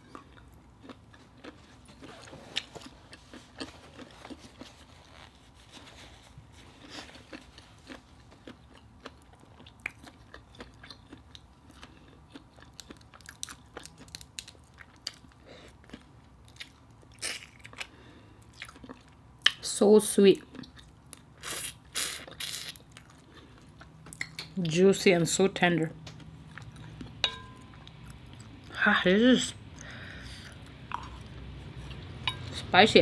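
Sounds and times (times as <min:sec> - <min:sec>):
chewing with wet clicks: 0:00.0 - 0:05.2, 0:07.3 - 0:19.6, 0:20.4 - 0:21.4, 0:22.3 - 0:24.8, 0:26.0 - 0:28.7, 0:29.7 - 0:32.4.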